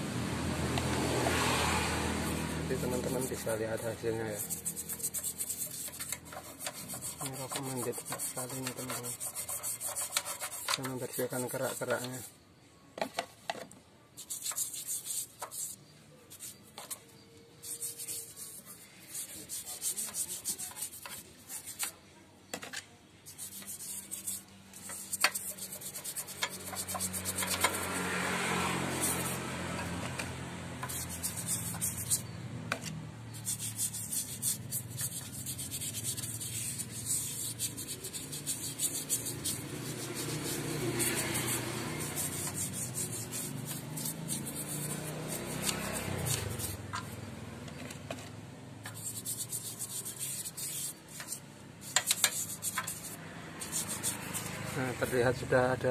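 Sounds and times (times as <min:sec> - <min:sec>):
stiff brush scrubbing metal: 0:02.0 - 0:12.3, 0:14.2 - 0:22.0, 0:23.3 - 0:47.3, 0:48.8 - 0:55.5.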